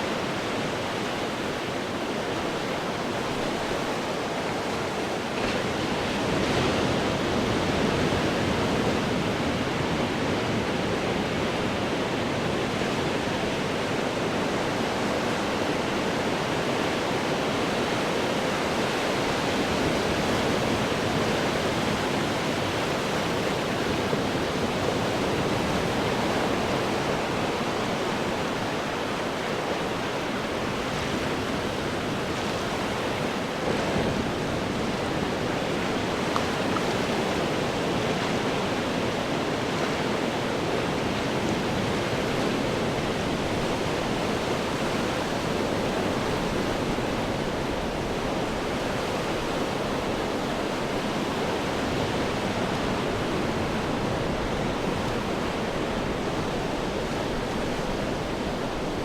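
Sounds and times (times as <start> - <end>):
ocean surf breaking on rocks: 0.0 - 59.0.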